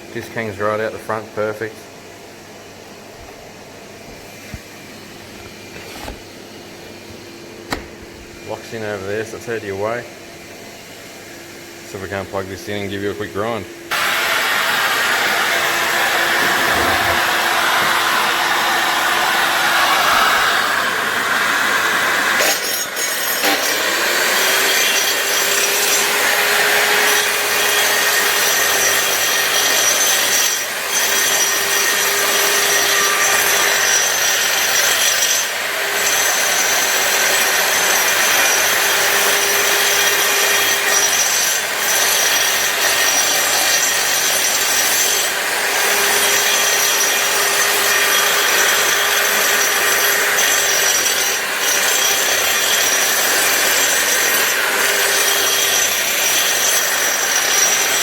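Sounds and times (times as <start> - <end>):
angle grinder grinding floor: 3.2 - 58.0.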